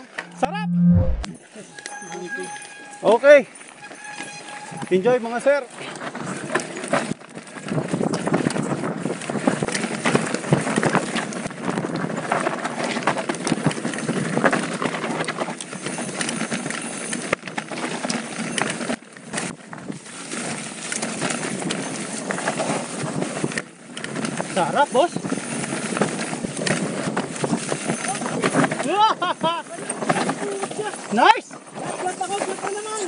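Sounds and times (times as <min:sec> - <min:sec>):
bike rattling: 0:01.6 - 0:33.0.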